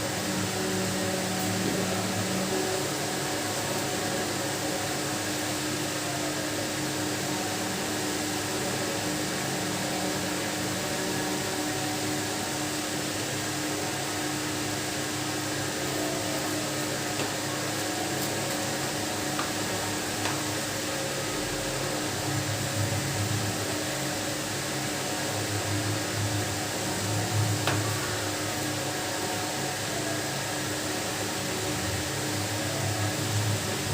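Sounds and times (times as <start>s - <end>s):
mechanical hum and hiss: 0.0s - 33.9s.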